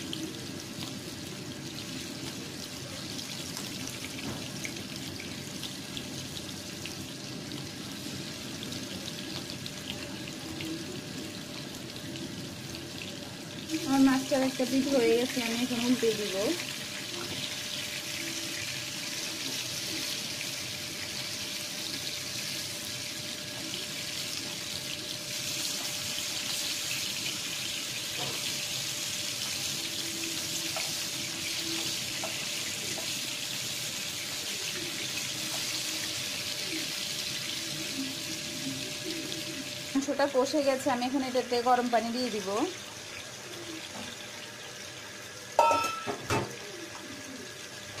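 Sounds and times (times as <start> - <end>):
fish sizzling in hot oil: 0.0 - 48.0.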